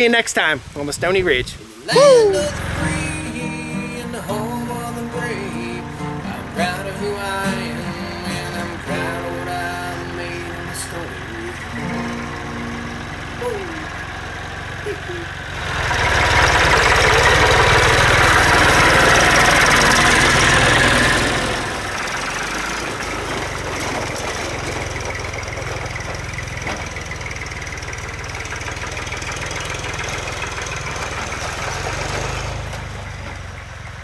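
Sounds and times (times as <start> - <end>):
tractor engine driving past: 2.0 - 34.0.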